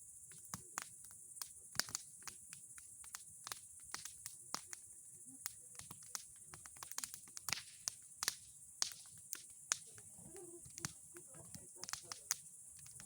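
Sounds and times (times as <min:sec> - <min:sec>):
bonfire crackling and popping: 0:00.2 - 0:13.0.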